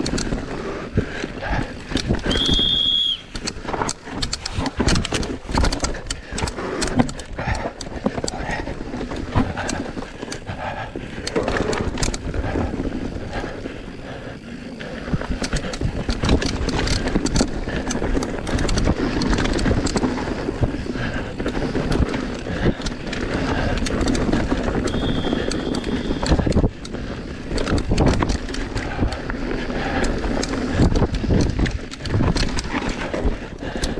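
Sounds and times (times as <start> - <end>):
bike frame rattling and knocking: 0.0 - 13.5, 14.8 - 33.9
bike tyres rushing on dirt: 0.0 - 33.9.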